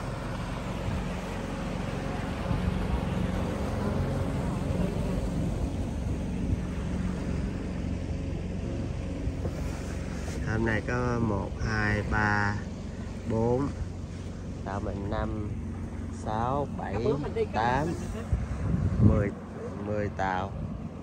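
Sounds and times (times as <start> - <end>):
motorboat engines humming: 0.0 - 21.0.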